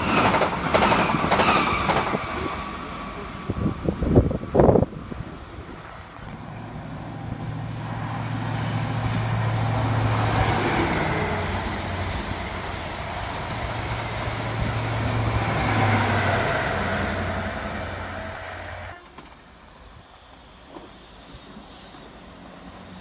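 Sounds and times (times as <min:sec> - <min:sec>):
train passing with low hum: 0:00.0 - 0:23.0.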